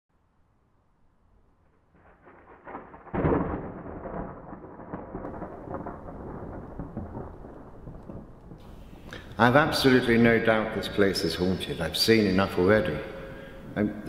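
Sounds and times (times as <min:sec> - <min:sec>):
thunder rumbling and clapping: 0:02.3 - 0:14.0.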